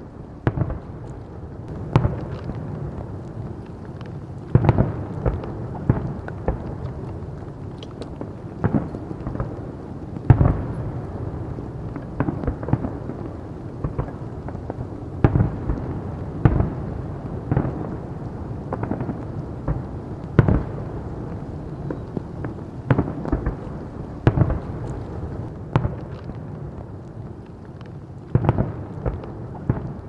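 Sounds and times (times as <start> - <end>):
continuous low rumble: 0.0 - 30.0
fireworks bursting with bangs: 0.4 - 27.5, 28.2 - 30.0.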